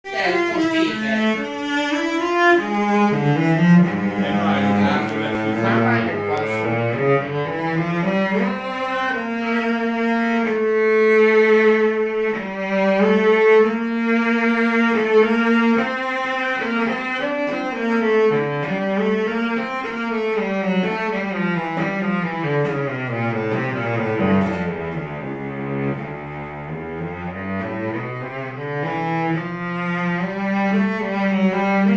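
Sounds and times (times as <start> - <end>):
bowed cello melody: 0.0 - 31.9.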